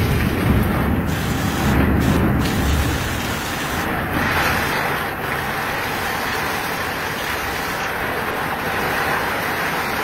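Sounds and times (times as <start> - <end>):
rain on tiled roofs: 0.0 - 10.0
water pouring off gutters: 0.0 - 10.0.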